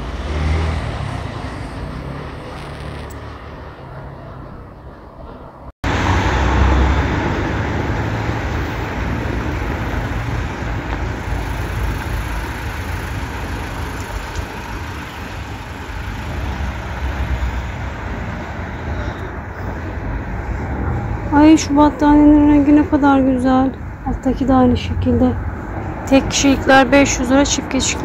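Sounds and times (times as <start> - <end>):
traffic noise with low rumble: 0.0 - 28.0.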